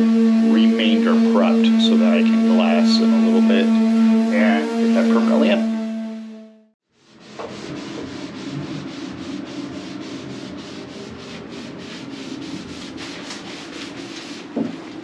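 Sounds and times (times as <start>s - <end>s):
hand sanding back and forth: 0.0s - 5.6s, 7.0s - 15.0s.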